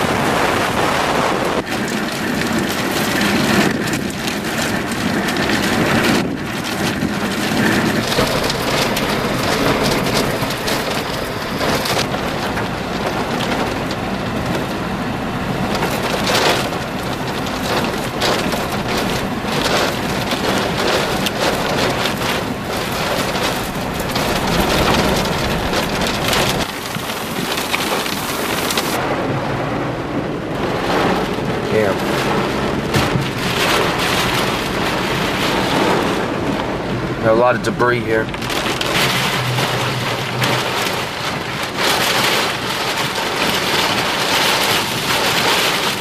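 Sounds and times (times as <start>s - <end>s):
heavy rain drumming on car roof: 0.0s - 46.0s.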